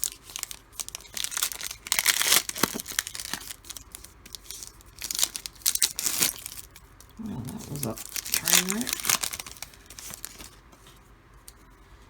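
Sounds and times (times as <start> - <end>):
foil wrapper crinkling: 0.0 - 10.9.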